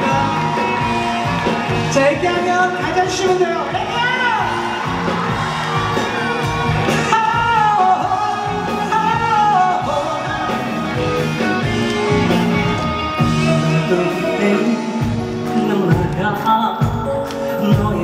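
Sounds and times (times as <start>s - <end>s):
live band playing pop ballad: 0.0s - 18.0s.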